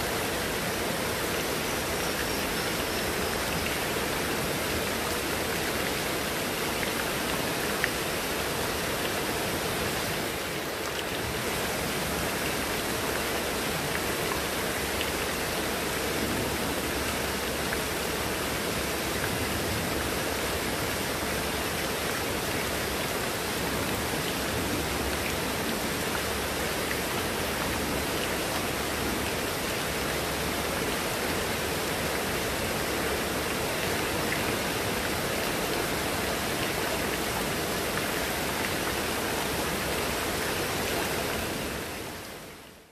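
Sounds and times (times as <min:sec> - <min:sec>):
heavy rain falling: 0:03.1 - 0:42.8.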